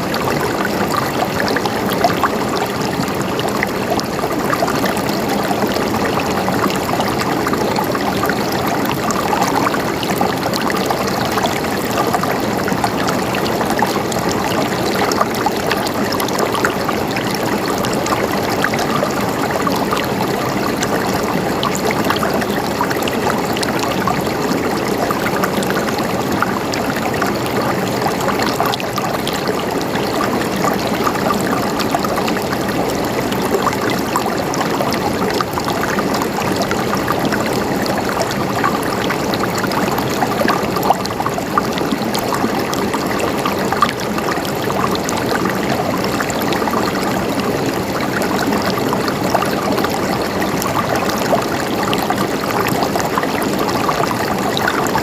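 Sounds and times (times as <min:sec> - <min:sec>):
running water gurgling: 0:00.0 - 0:55.0.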